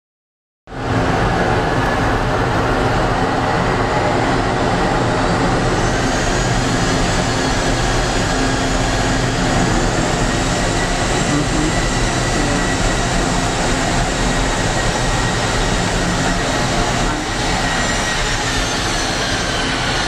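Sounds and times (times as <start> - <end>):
high turbine whine: 0.7 - 20.0
jet aircraft roar: 0.7 - 20.0.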